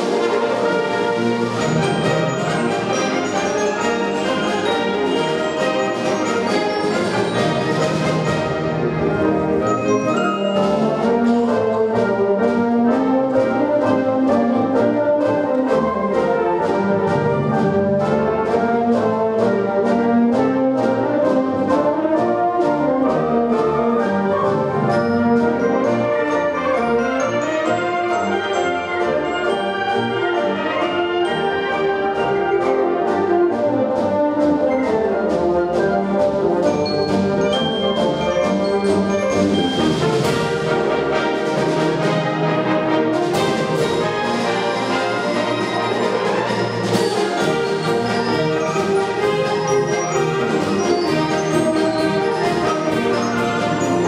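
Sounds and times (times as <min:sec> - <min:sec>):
concert band playing: 0:00.0 - 0:54.0
steady percussion beat: 0:00.0 - 0:54.0.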